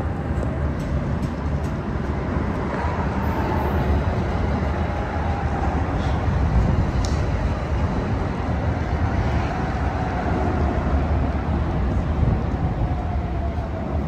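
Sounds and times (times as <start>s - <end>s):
passing train rumble: 0.0s - 14.0s.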